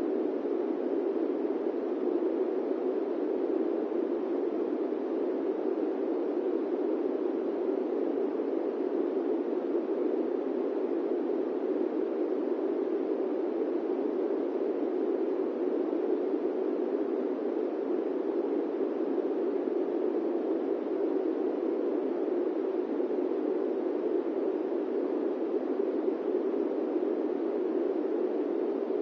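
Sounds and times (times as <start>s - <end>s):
airplane cabin white noise: 0.0s - 29.0s.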